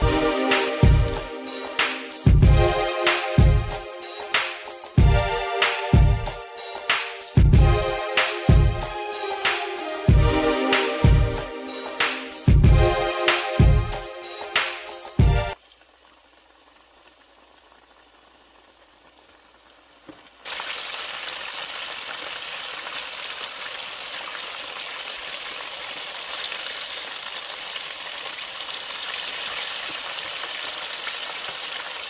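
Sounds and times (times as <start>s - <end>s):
chicken sizzling in hot oil: 0.0s - 8.8s, 14.3s - 32.0s.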